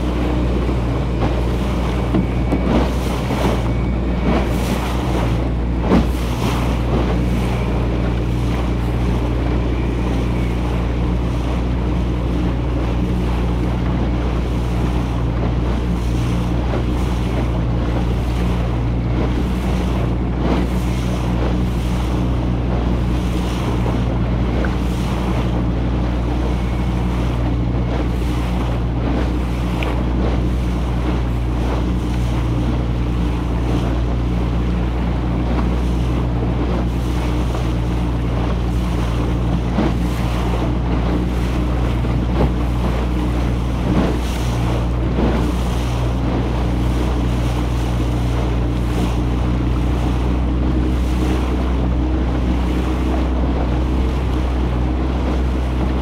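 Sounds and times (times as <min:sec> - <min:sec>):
motorboat engine running: 0:00.0 - 0:56.0
water rushing along hull: 0:00.0 - 0:56.0
wind buffeting microphone: 0:00.0 - 0:56.0.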